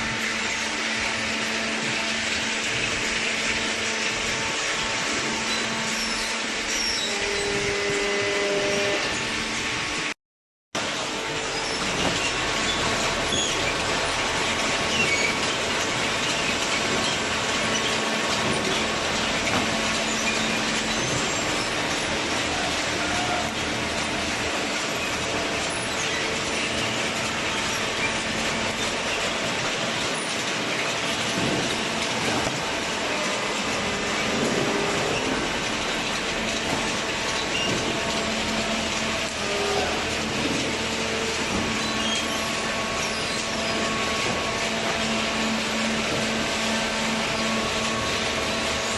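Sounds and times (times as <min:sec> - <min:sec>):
machinery mechanical clatter: 0:00.0 - 0:10.2, 0:10.8 - 0:48.9
high machine squeaks: 0:04.6 - 0:09.4, 0:11.3 - 0:29.5, 0:30.2 - 0:48.9.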